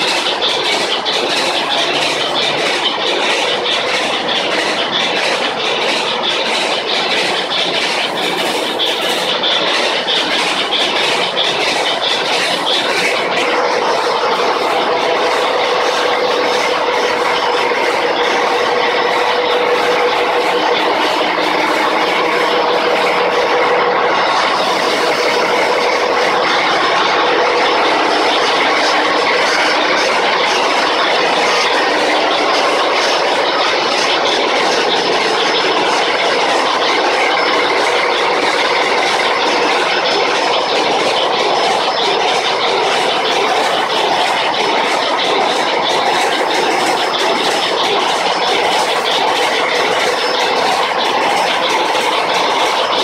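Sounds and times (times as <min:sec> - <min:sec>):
diesel engines running: 0:00.0 - 0:53.0
steady hum: 0:00.0 - 0:53.0.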